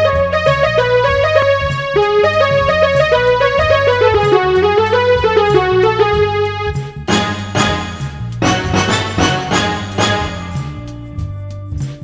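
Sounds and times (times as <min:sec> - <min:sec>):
electric piano melody: 0:00.0 - 0:10.7
steady bass line: 0:00.0 - 0:12.0.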